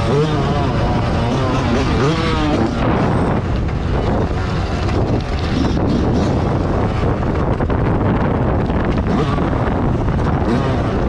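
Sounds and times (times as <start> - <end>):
motocross bike engine: 0.0 - 11.0
wind buffeting microphone: 0.0 - 11.0.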